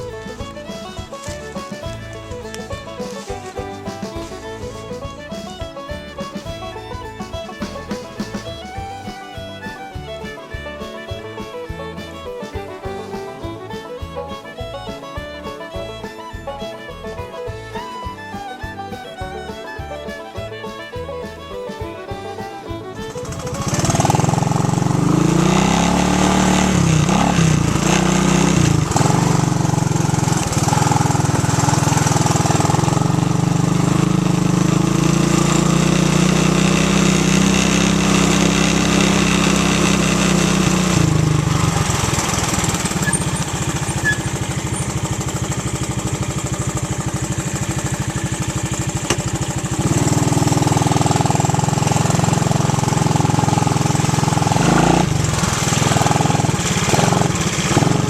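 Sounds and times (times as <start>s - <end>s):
small atv engine running: 0.0s - 13.8s, 17.5s - 58.0s.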